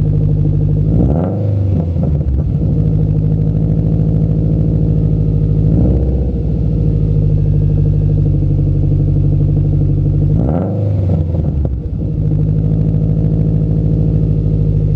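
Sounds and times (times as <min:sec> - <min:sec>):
car engine idling: 0:00.0 - 0:14.9
engine revving: 0:00.7 - 0:14.9.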